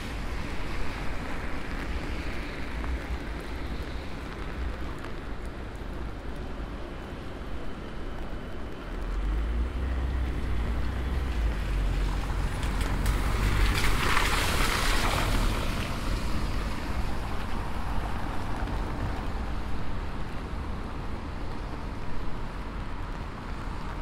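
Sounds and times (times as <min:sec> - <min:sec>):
low rumble of city traffic: 0:00.0 - 0:24.0
tyre hiss on wet street: 0:00.0 - 0:24.0.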